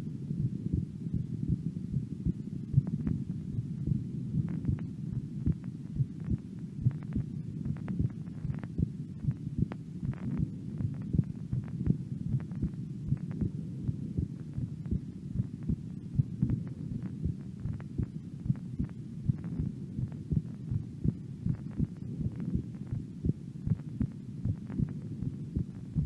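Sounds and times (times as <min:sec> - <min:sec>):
deep heartbeat: 0:00.4 - 0:26.0.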